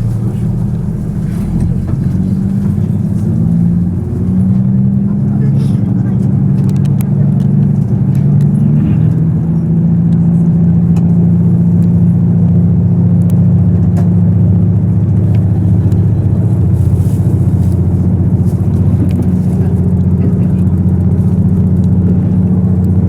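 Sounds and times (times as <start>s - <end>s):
diesel railcar engine droning: 0.0s - 23.0s.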